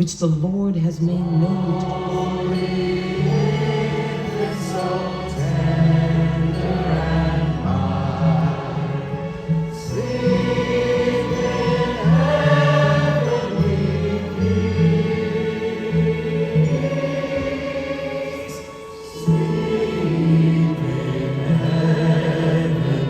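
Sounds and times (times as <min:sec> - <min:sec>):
orchestral accompaniment: 0:01.0 - 0:23.0
choir singing: 0:01.1 - 0:23.0.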